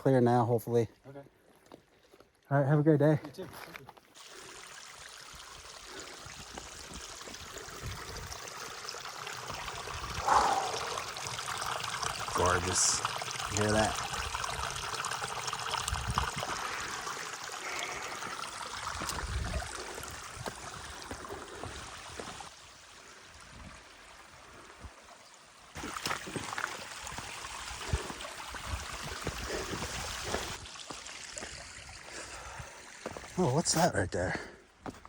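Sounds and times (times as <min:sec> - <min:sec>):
stream trickling over rocks: 0:04.0 - 0:34.9.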